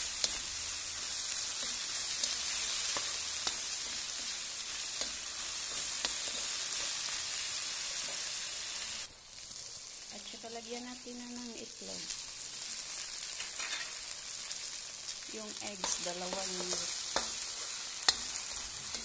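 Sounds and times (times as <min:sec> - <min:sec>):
okra sizzling in oil: 0:00.0 - 0:19.0.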